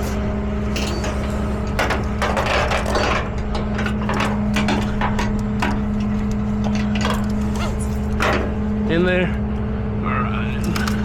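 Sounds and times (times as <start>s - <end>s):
tow truck engine humming: 0.0s - 11.0s.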